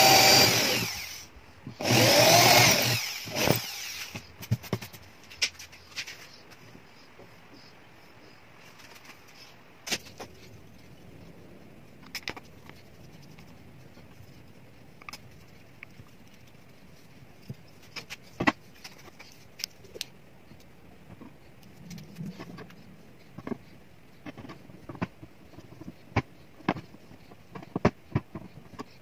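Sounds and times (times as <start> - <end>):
faint room noise: 0.0 - 29.0.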